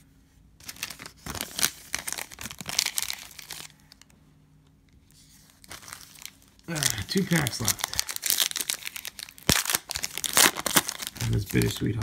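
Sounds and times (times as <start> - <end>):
foil wrappers crinkling: 0.6 - 4.1, 5.3 - 12.0.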